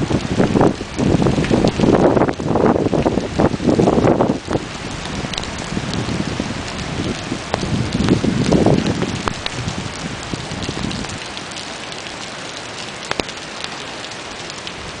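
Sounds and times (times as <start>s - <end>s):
raindrops ticking on a surface: 0.0s - 15.0s
steady rain falling: 0.0s - 15.0s.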